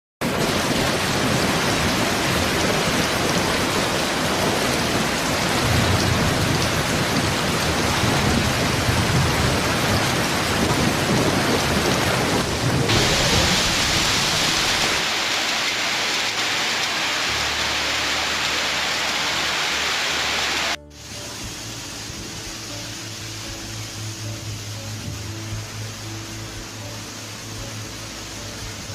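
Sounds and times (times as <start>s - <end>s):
heavy rain pouring: 0.2s - 28.9s.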